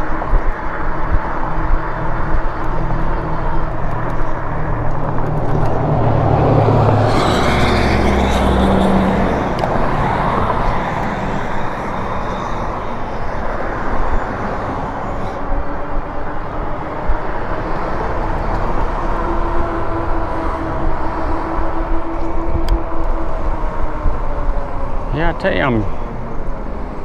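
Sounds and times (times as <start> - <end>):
motor vehicle passing: 0.0 - 27.0
wind and road noise: 0.0 - 27.0.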